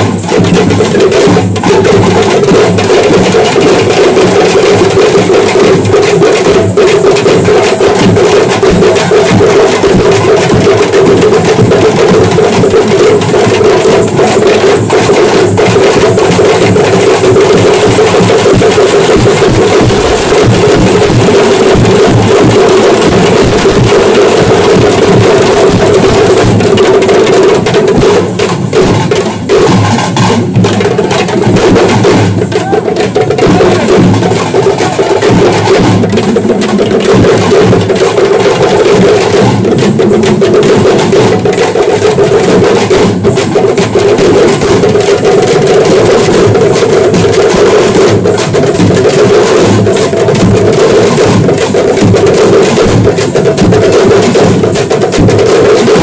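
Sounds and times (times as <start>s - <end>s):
frame drums and barrel drum: 0.0s - 56.0s.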